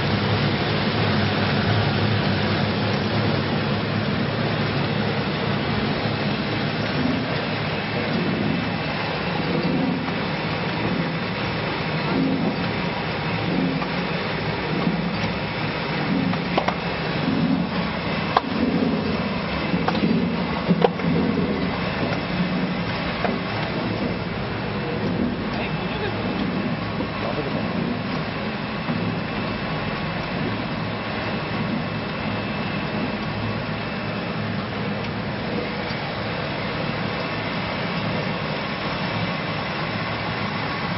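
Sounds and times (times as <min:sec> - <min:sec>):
juice extractor running: 0:00.0 - 0:40.9
low machine hum: 0:00.0 - 0:40.9.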